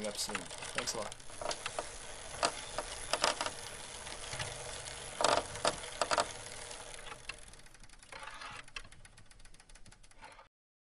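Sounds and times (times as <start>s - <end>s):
bicycle clatters: 0.0s - 10.5s
bicycle ticking and rattling: 0.0s - 10.5s.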